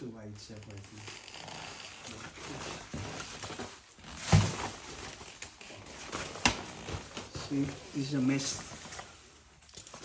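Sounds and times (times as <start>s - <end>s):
fabric rustling: 0.6s - 10.0s.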